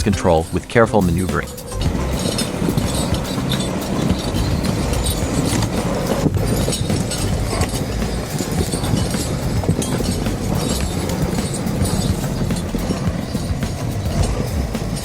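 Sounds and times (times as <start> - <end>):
machine clanking and knocking: 1.3 - 15.0
diesel engine running: 1.4 - 15.0.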